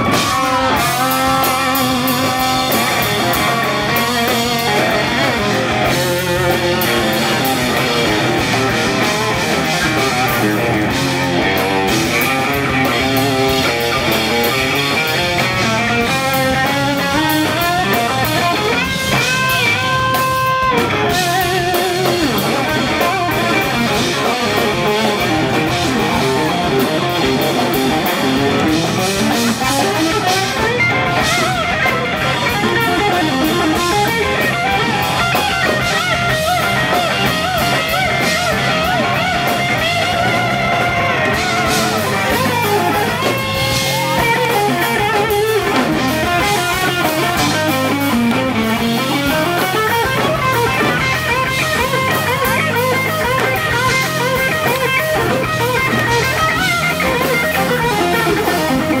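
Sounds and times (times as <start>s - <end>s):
electric guitar lead: 0.0s - 59.0s
funk rock band playing: 0.0s - 59.0s.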